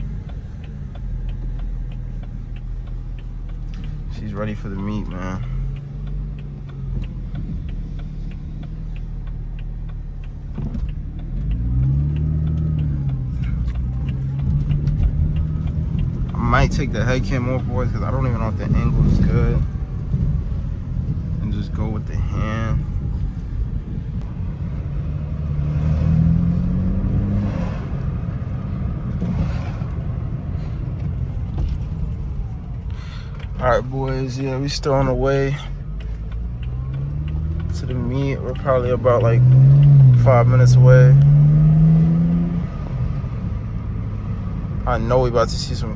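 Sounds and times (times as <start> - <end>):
car engine droning: 0.0 - 45.9
light regular ticking: 0.0 - 45.9
road rumble: 0.0 - 45.9.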